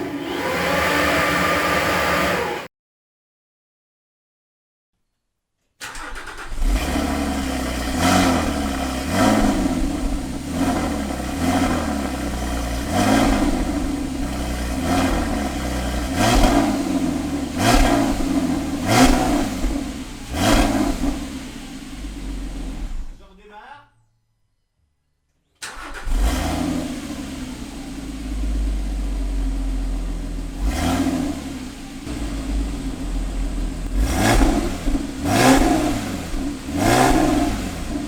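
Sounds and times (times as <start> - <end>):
car engine idling and revving: 0.0 - 2.7, 5.9 - 23.2, 25.6 - 38.0.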